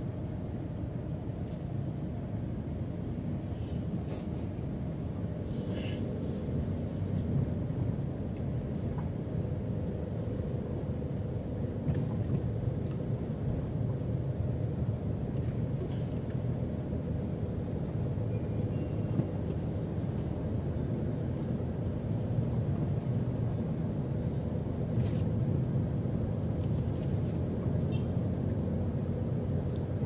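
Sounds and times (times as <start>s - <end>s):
car engine rumble: 0.0s - 30.0s
road noise: 0.0s - 30.0s.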